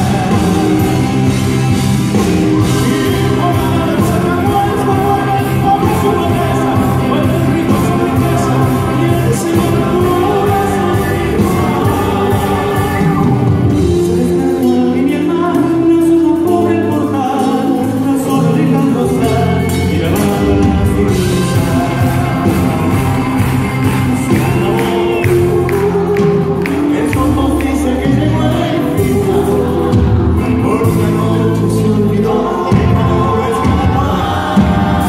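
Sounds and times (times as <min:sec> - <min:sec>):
lead singer: 0:00.0 - 0:35.0
live pop-rock band: 0:00.0 - 0:35.0.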